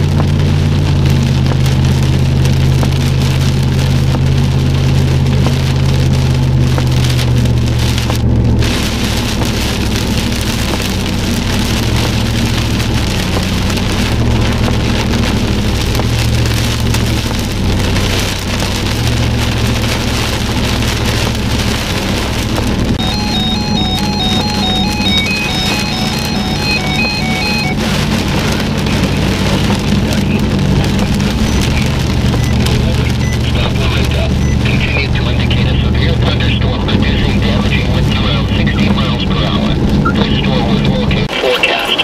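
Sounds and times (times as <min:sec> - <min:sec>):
car driving drone: 0:00.0 - 0:42.0
heavy rain on car windshield: 0:00.0 - 0:42.0.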